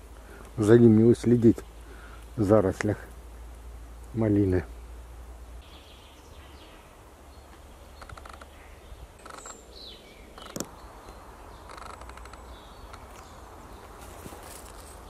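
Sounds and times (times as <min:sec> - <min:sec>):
distant songbirds trilling: 0:00.0 - 0:15.0.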